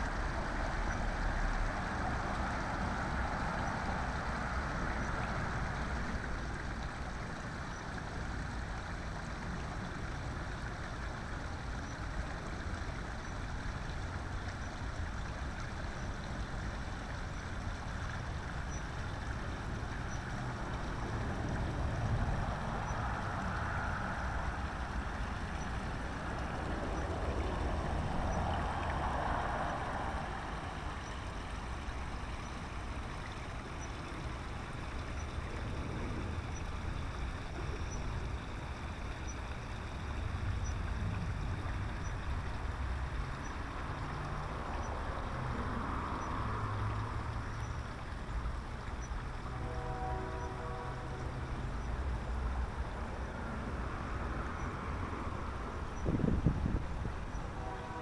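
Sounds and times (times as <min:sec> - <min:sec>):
small waterfall splashing over stones: 0:00.0 - 0:58.0.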